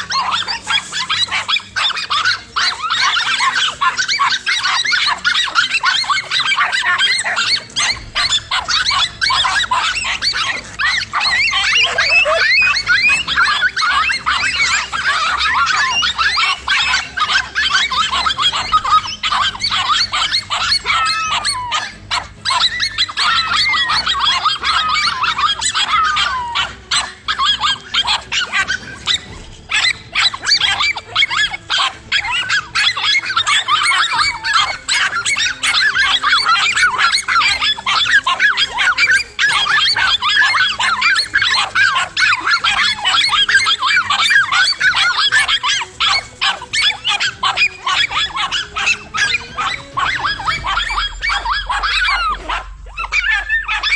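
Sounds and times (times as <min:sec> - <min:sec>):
dogs barking and yapping: 0:00.0 - 0:53.9.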